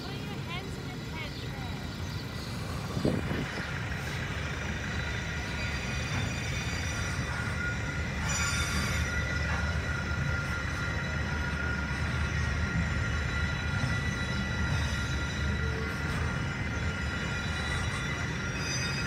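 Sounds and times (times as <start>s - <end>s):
freight train wheels rumbling on rail: 0.0s - 19.0s
high-pitched wheel squeal: 2.3s - 19.0s.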